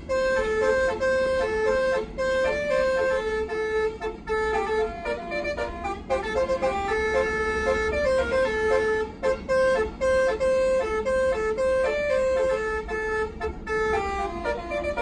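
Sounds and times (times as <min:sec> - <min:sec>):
air horns playing melody: 0:00.0 - 0:15.0
bus rumble: 0:00.0 - 0:15.0.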